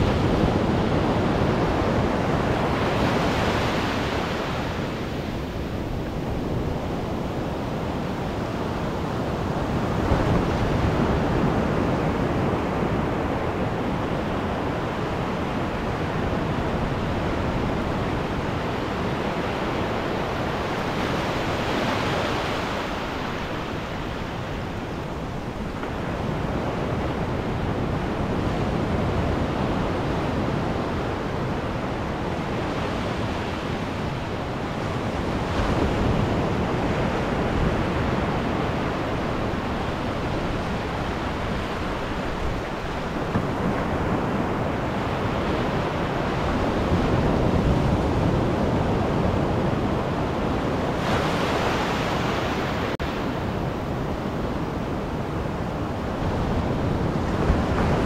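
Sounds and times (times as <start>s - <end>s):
ocean surf breaking on sand: 0.0s - 58.0s.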